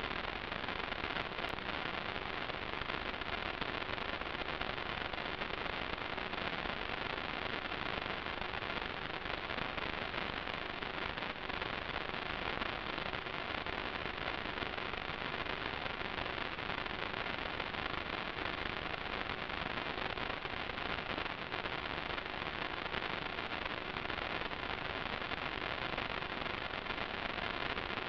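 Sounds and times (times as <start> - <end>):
static hiss: 0.0 - 28.0.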